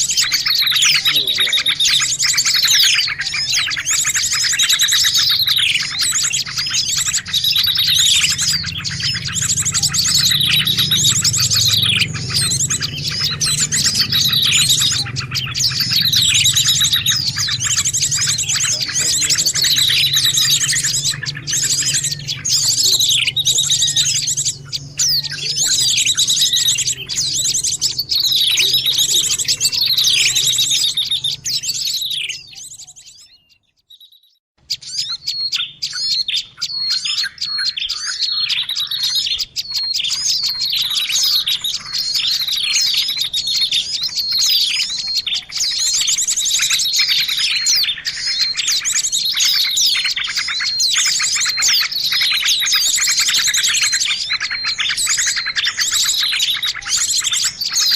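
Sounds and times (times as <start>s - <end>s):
small birds calling: 0.0s - 57.9s.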